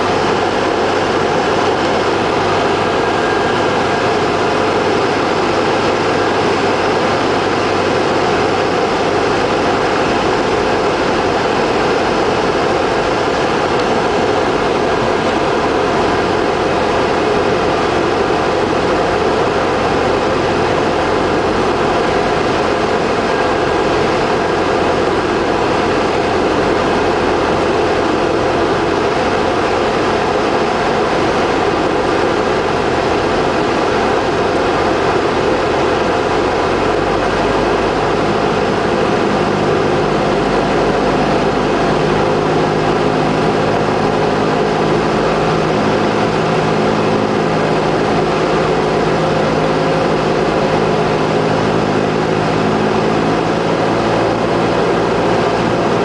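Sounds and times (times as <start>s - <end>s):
aircraft engine and propeller: 0.0s - 56.0s
loud rush of air: 0.0s - 56.0s.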